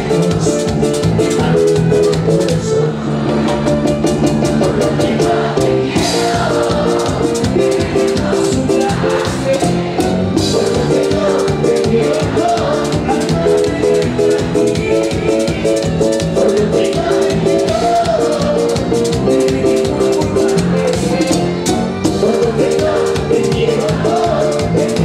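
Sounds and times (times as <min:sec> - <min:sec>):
live latin dance band: 0:00.0 - 0:25.0.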